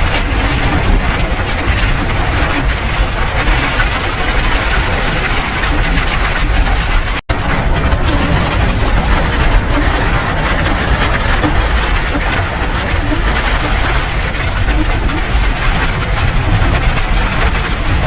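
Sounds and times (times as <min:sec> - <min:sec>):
heavy rain: 0:00.0 - 0:18.0
low rumble: 0:00.0 - 0:18.0.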